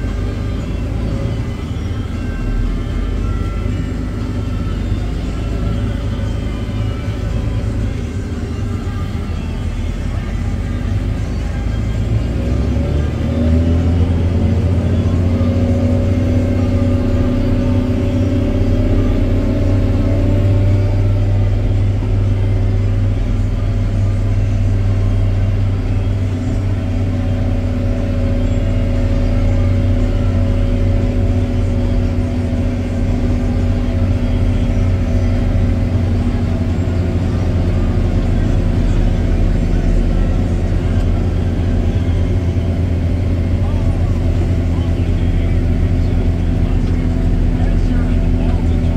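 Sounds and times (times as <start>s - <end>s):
tractor diesel engine drone: 0.0s - 48.9s.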